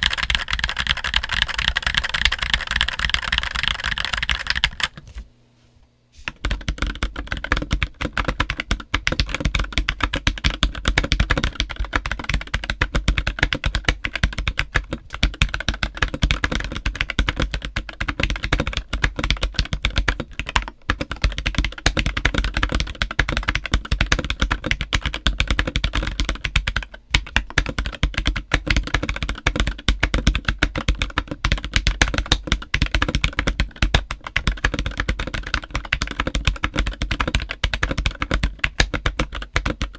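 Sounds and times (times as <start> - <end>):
fast mechanical keyboard typing: 0.0 - 5.0, 6.3 - 39.9.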